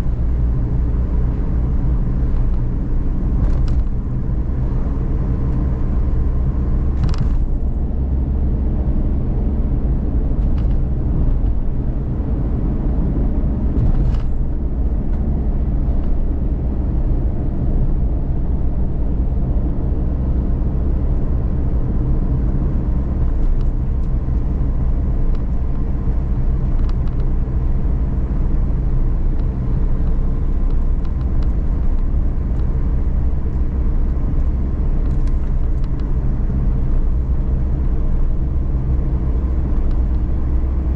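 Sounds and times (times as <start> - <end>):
van engine and road noise rumble: 0.0 - 40.9.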